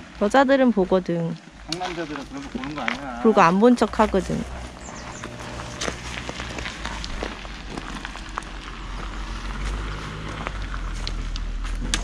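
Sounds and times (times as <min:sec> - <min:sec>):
low steady rumble: 0:00.0 - 0:12.0
dry leaves crackling underfoot: 0:01.3 - 0:12.0
tent nylon rustling: 0:01.8 - 0:12.0.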